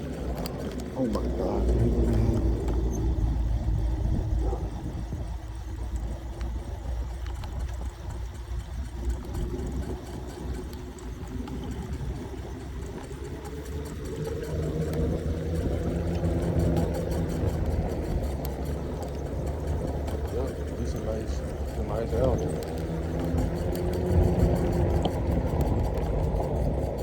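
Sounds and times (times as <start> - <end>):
electric motor hum: 0.0 - 27.0
wind and road noise: 0.0 - 27.0.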